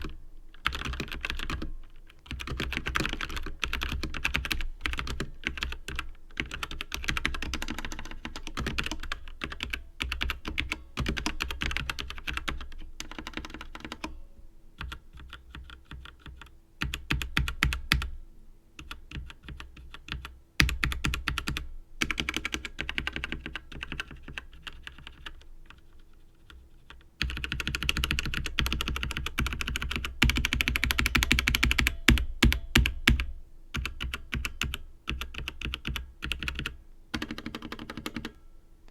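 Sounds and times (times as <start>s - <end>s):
mechanical keyboard typing: 0.0s - 14.1s, 14.8s - 18.1s, 18.8s - 25.8s, 26.4s - 38.4s.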